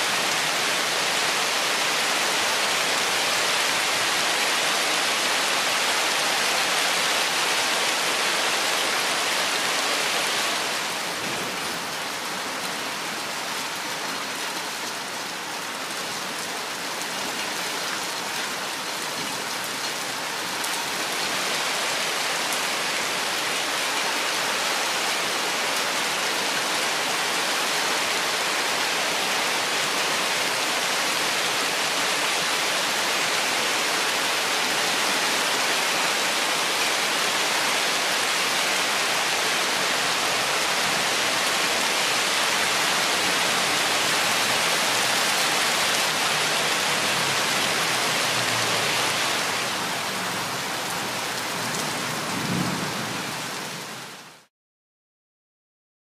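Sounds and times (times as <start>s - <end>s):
rain falling on foliage: 0.0s - 54.5s.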